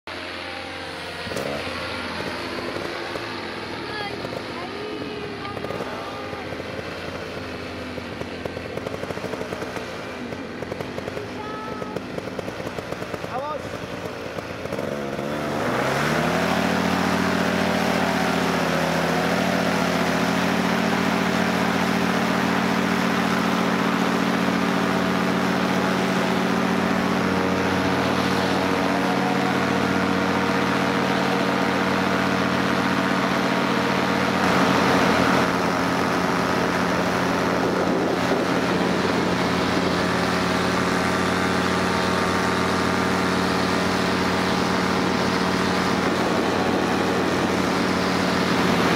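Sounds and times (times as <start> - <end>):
engine and propeller revving: 0.0 - 48.9.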